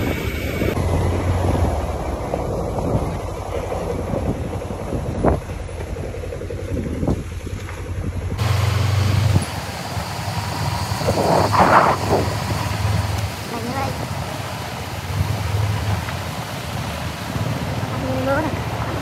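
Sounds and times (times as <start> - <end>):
motorbike engine running: 0.0 - 16.6
wind buffeting microphone: 0.0 - 19.0.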